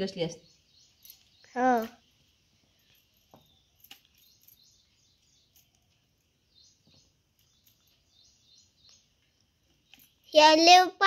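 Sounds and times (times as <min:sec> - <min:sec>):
faint bird chirps: 0:00.0 - 0:10.4.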